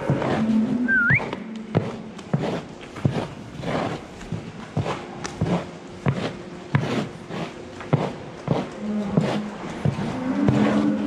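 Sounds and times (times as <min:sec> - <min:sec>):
scraper scraping sawdust: 0:01.7 - 0:11.0.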